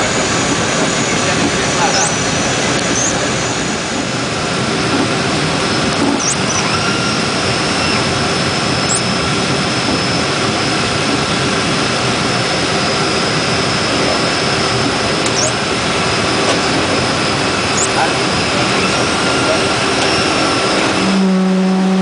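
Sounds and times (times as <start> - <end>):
thin high whine: 0.0 - 22.0
turboprop engines running: 0.0 - 22.0.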